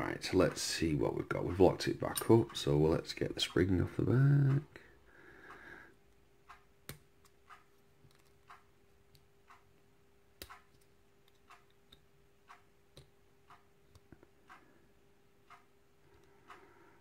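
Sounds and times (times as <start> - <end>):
faint steady hum: 0.0 - 17.0
faint ticking: 0.4 - 17.0.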